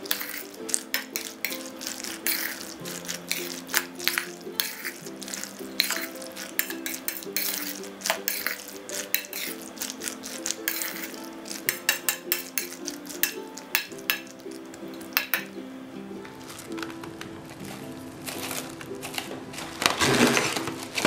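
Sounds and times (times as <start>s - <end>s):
spoon scraping metal bowl: 0.0s - 15.5s, 17.6s - 20.7s
soft background music: 0.0s - 21.0s.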